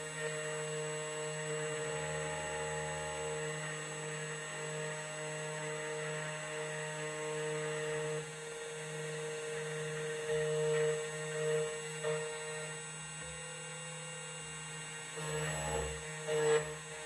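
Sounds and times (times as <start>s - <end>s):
key cutting machine motor hum: 0.0s - 17.0s.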